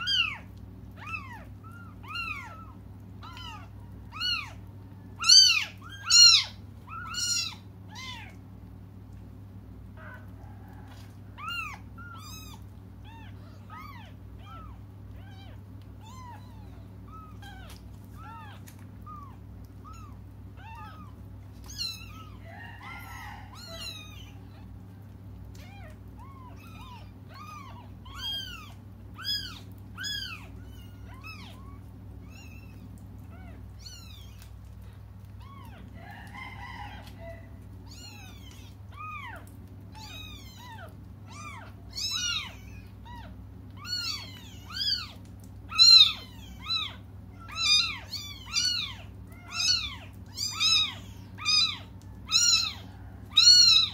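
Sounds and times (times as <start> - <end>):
kittens mewing: 0.0 - 9.1, 9.8 - 53.9
steady low hum: 0.0 - 53.9.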